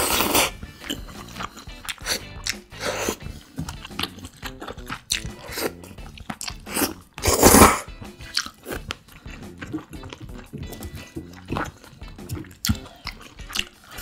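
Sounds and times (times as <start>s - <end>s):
chewing and crunching noodles: 0.0s - 14.0s
wet mouth clicks: 0.0s - 14.0s.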